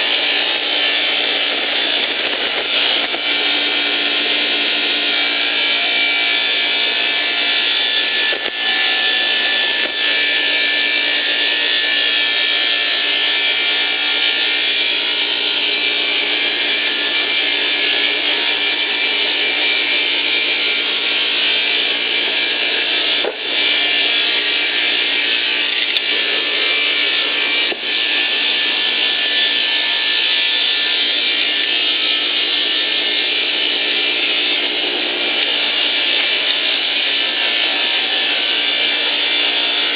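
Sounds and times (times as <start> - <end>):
log-sawing machine running: 0.0 - 39.9.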